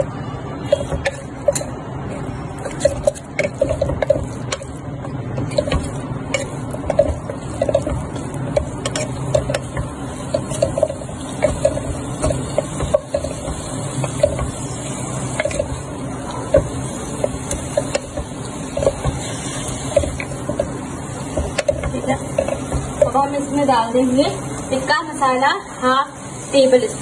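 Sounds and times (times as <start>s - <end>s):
chicken sizzling: 0.0s - 27.0s.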